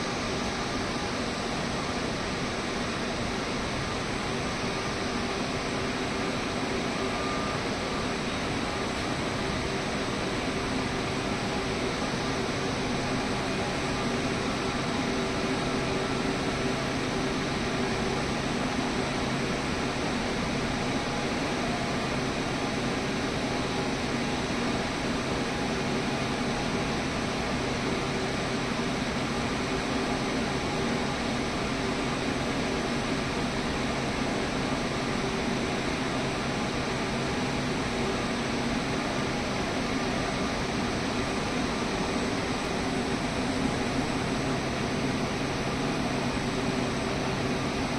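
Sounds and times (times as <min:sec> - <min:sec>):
machine hum with fan rush: 0:00.0 - 0:47.9.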